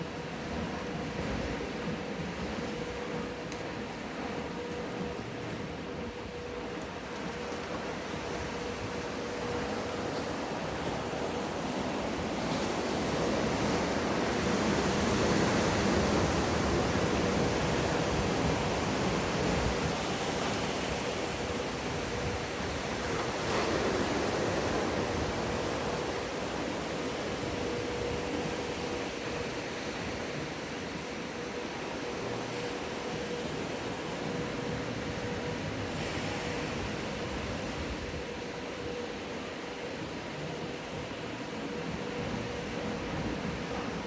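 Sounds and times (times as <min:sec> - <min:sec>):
waves surging and breaking: 0:00.0 - 0:44.0.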